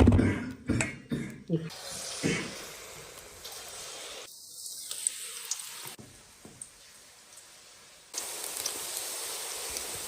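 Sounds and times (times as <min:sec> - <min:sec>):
fat sizzling in a hot pan: 0:01.7 - 0:10.0.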